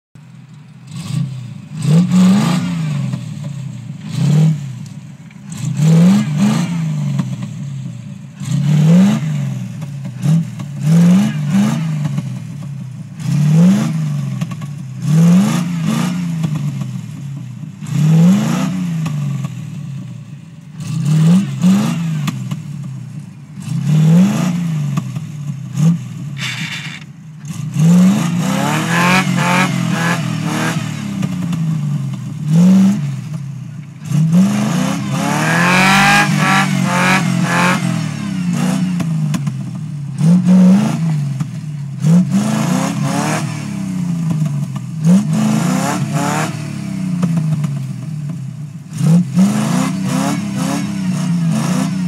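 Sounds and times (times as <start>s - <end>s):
engine revving hard: 0.9s - 3.3s, 4.0s - 4.8s, 5.5s - 7.4s, 8.4s - 12.4s, 13.2s - 16.9s, 17.8s - 19.5s, 20.8s - 22.6s, 23.6s - 33.4s, 34.0s - 39.6s, 40.2s - 41.4s, 42.0s - 47.8s, 48.9s - 52.0s.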